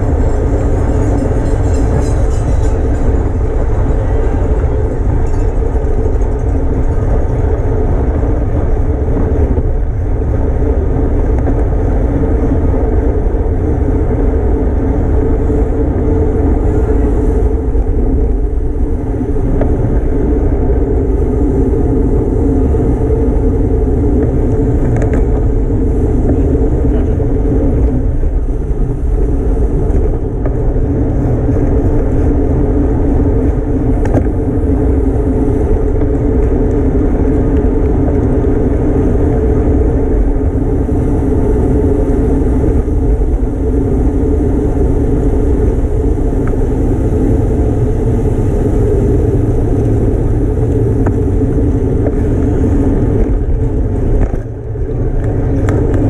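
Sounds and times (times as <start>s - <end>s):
road and tyre noise: 0.0s - 56.0s
wind rushing over microphone: 0.0s - 56.0s.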